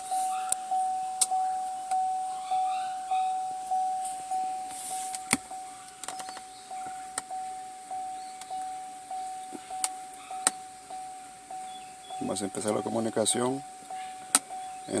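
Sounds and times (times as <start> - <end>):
car warning chime dinging: 0.0 - 15.0.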